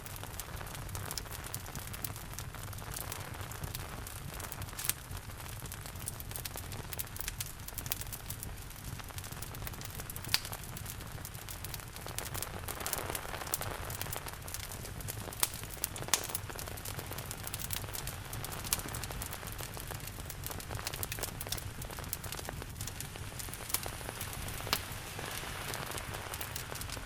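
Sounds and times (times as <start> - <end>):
steady rain hiss: 0.0 - 27.0
wood fire crackling and popping: 0.0 - 27.0.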